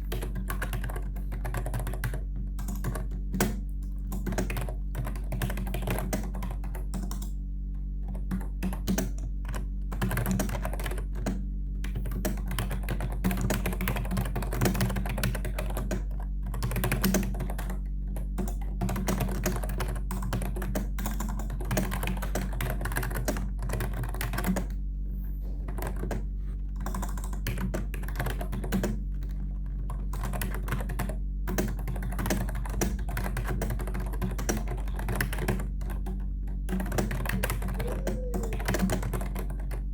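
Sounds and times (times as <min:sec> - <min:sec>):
steady low hum: 0:00.0 - 0:39.9
typing on keyboard: 0:00.1 - 0:07.4, 0:08.0 - 0:24.7, 0:25.7 - 0:39.8.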